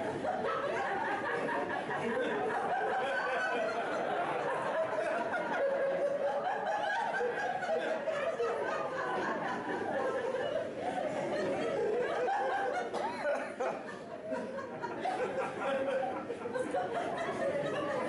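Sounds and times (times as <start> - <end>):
people laughing: 0.0 - 18.0
people talking: 0.0 - 18.0.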